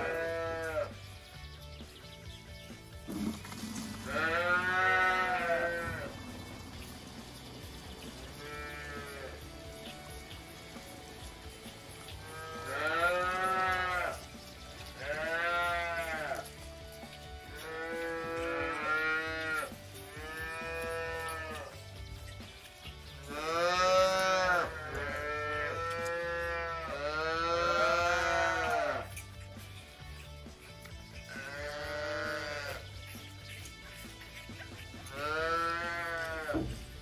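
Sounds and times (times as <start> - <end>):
calves bawling: 0.0 - 37.0.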